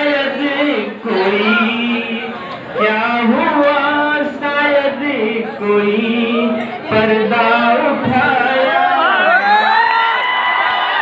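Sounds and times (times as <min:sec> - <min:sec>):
man singing into microphone: 0:00.0 - 0:09.9.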